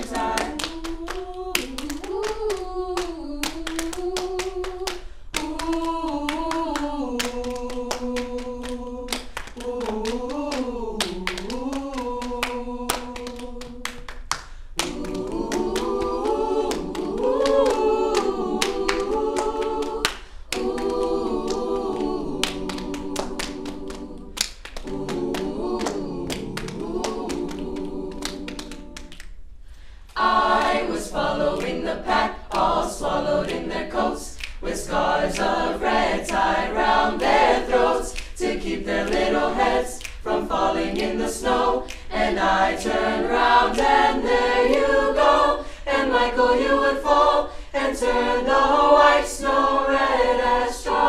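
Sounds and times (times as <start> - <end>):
choir singing a cappella: 0.0 - 51.0.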